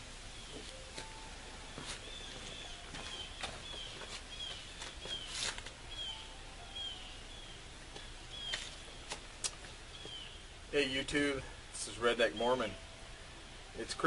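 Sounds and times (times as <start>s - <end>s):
bird chirping: 0.3s - 13.1s.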